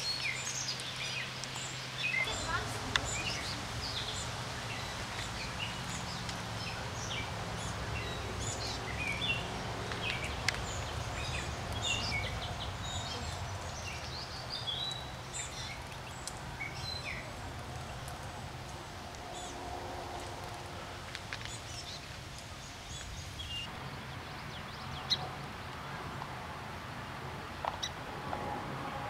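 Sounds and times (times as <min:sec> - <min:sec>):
small birds chirping: 0:00.0 - 0:20.3, 0:21.1 - 0:25.7.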